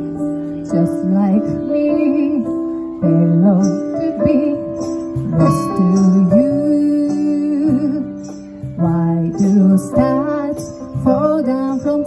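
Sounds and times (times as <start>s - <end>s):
woman singing a ballad: 0.0s - 12.0s.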